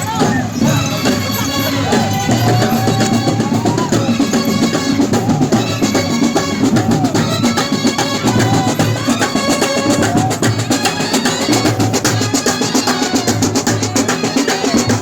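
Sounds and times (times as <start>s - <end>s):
fast dense drumming: 0.0s - 15.0s
wavering melody: 0.0s - 15.0s.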